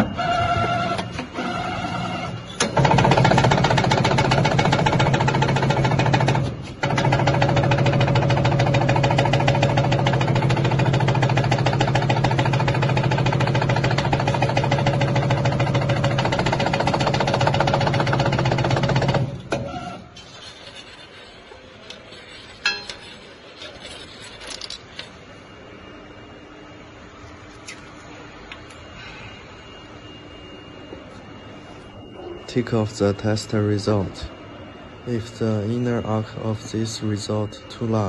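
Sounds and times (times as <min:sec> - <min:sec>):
bending machine hum and clatter: 0:00.0 - 0:38.0.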